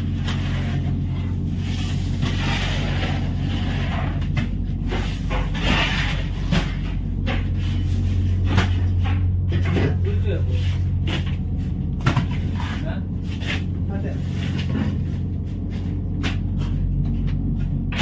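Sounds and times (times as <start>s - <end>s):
engine humming: 0.0s - 18.0s
knocks and scrapes: 0.0s - 18.0s.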